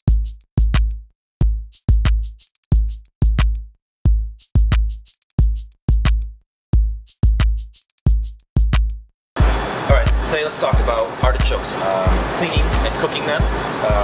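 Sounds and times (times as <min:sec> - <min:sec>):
drum machine beat: 0:00.0 - 0:14.0.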